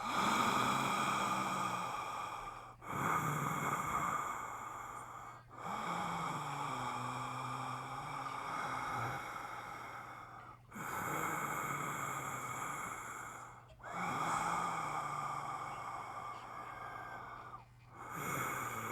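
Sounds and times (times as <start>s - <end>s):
faint low voice hum: 0.0s - 18.9s
man breathing deeply: 0.0s - 18.9s.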